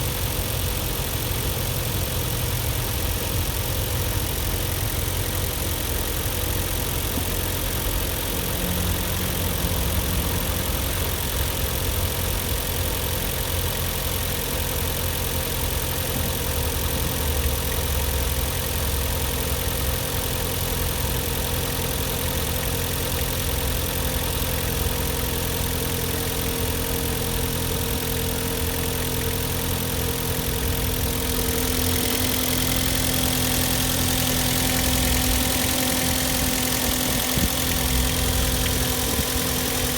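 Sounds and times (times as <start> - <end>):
petrol engine idling: 0.0 - 39.9.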